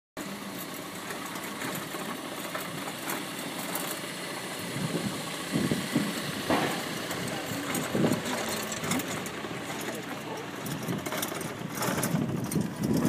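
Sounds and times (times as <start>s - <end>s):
wooden wagon rolling over paving: 0.2s - 13.0s.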